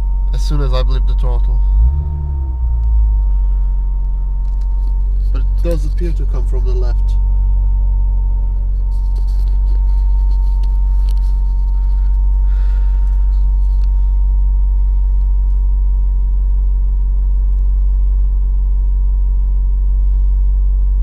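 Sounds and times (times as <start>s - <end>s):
car engine idling: 0.0s - 21.0s
high-pitched electrical whine: 0.0s - 21.0s.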